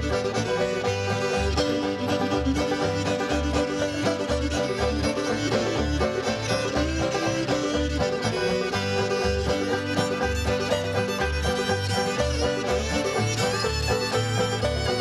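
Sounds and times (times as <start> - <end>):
string band playing: 0.0 - 15.0.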